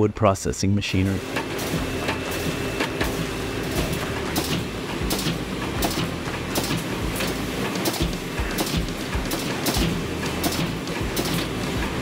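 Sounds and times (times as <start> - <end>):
sharp machine clacks: 1.2 - 12.0.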